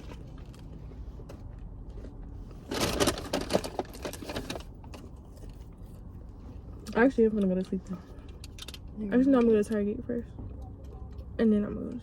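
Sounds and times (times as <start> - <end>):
low steady rumble: 0.0 - 12.0
rustling and clicking handling noise: 0.0 - 12.0.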